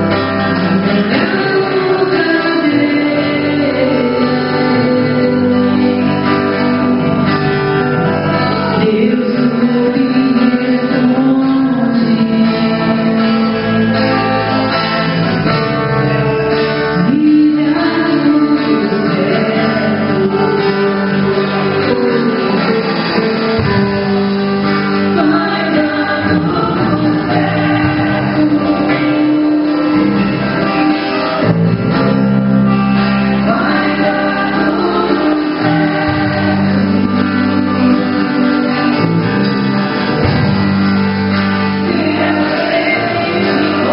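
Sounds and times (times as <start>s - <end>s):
person singing: 0.0s - 14.5s, 16.1s - 31.7s, 32.7s - 43.9s
guitar accompaniment: 0.0s - 43.9s.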